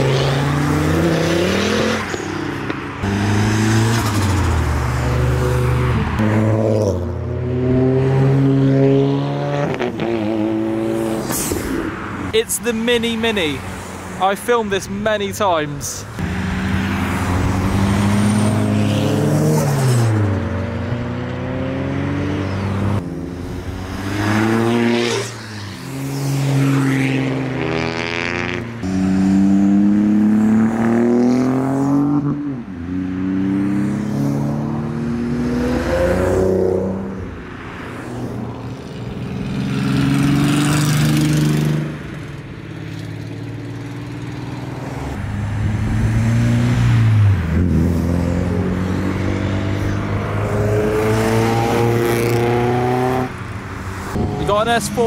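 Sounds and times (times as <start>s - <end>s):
car engines revving past: 0.0s - 12.4s, 16.0s - 55.0s.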